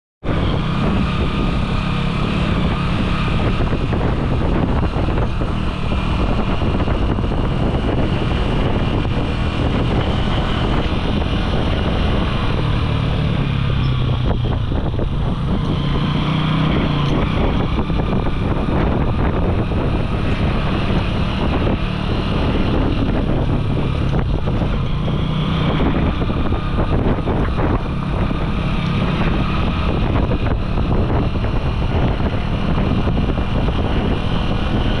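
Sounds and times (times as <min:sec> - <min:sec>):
wind noise on microphone: 0:00.2 - 0:35.0
small motorcycle engine running: 0:00.3 - 0:35.0.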